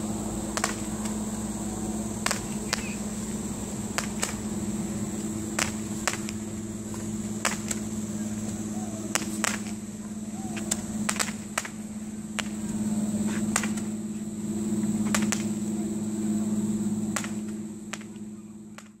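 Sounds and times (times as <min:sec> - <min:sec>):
distant fireworks bangs: 0:00.0 - 0:19.0
low steady hum: 0:00.0 - 0:19.0.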